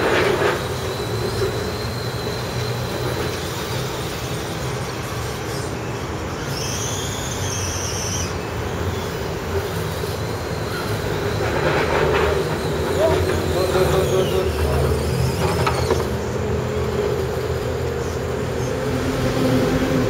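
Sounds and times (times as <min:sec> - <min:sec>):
high whine: 0:00.0 - 0:20.0
passing vehicles rumbling: 0:00.0 - 0:20.0.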